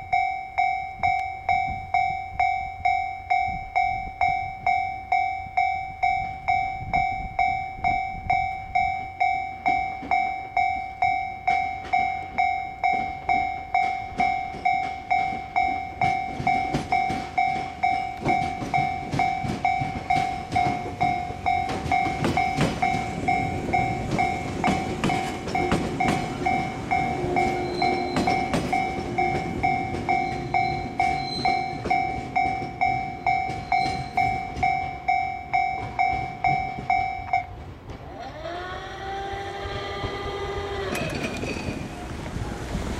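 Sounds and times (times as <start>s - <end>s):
level crossing alarm two-tone: 0.0s - 37.6s
train rumbling: 0.0s - 42.9s.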